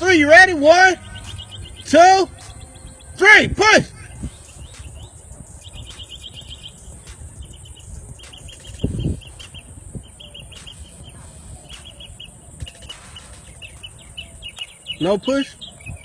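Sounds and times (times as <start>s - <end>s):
bird chirping: 0.0s - 16.0s
steady high hiss: 0.0s - 16.0s.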